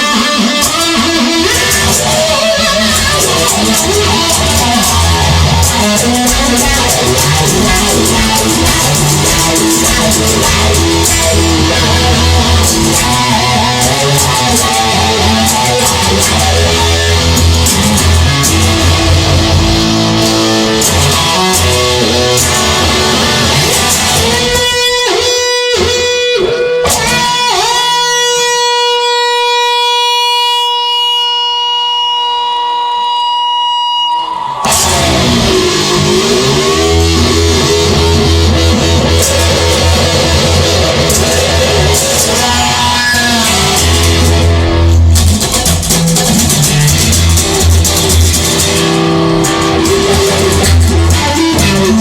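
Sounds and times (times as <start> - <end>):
electric guitar bending notes: 0.0 - 52.0
rock band playing: 0.0 - 52.0.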